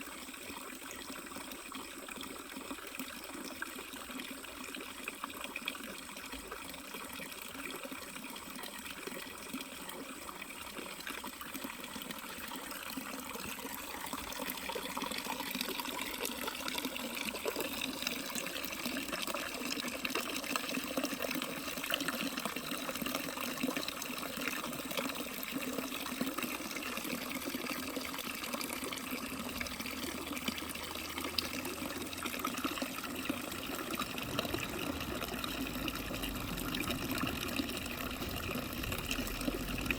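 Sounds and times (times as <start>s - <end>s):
running water rushing: 7.4s - 39.9s.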